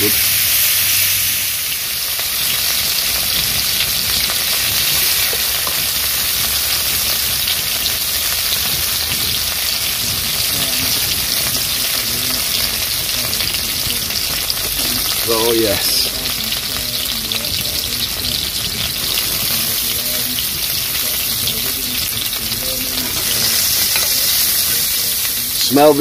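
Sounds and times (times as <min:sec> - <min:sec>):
burgers sizzling in a pan: 0:00.0 - 0:26.0.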